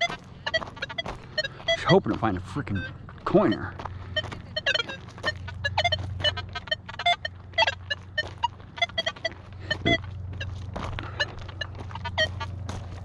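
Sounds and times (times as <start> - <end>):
metal detector chirping and beeping: 0.0 - 13.0
steady low hum: 0.0 - 13.0.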